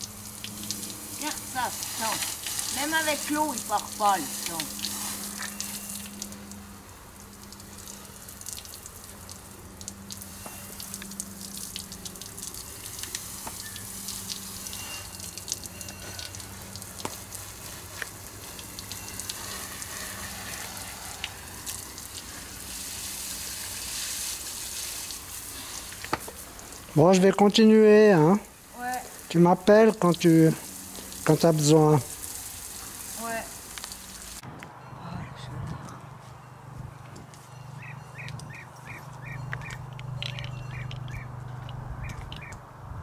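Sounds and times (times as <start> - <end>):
water spraying from a hose: 0.0 - 34.4.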